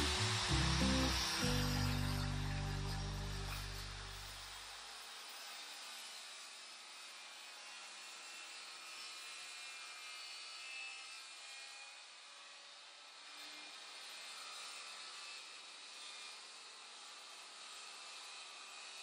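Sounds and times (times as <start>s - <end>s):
circular saw cutting plywood: 0.0s - 19.0s.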